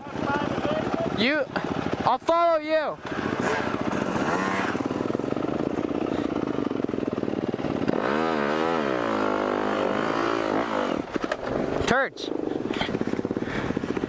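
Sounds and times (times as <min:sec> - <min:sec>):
motocross bike engine running: 0:00.0 - 0:14.0.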